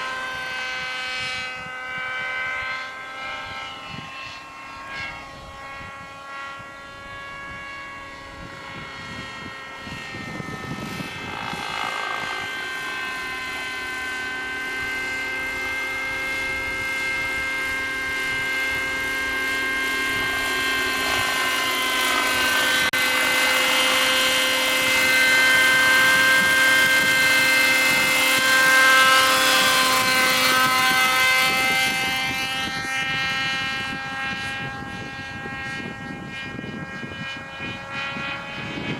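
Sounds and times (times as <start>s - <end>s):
model helicopter engine whine: 0.0s - 38.9s.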